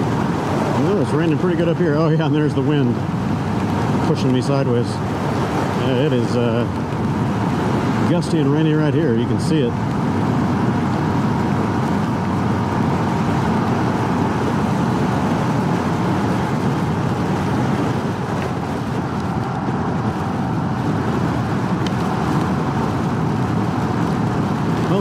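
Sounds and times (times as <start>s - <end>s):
motorcycle engine hum: 0.0s - 25.0s
wind and road noise: 0.0s - 25.0s.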